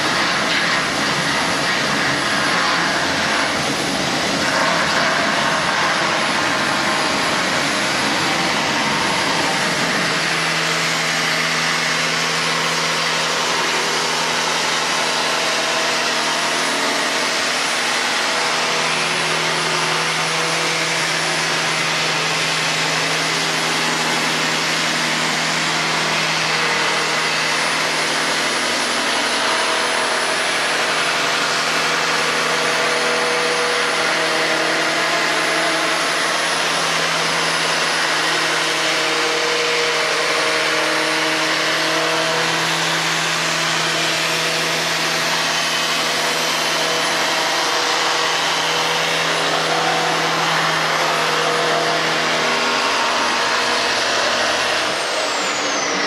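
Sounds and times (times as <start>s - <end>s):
belt sander whirring: 0.0s - 56.0s.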